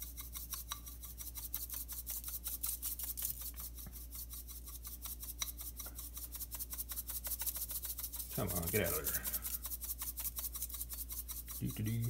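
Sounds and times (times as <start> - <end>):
shaker can rattling: 0.0 - 12.0.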